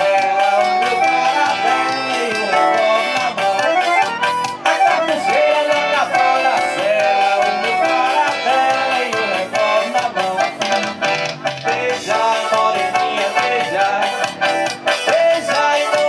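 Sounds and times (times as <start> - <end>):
accordion melody: 0.0 - 16.0
fast percussion beat: 0.0 - 16.0.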